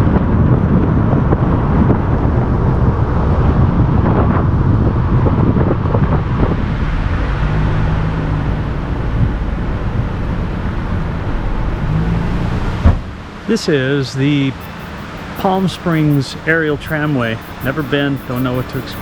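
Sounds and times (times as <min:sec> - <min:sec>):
wind buffeting microphone: 0:00.0 - 0:13.2, 0:14.5 - 0:19.0
car engine and road rumble: 0:00.0 - 0:19.0.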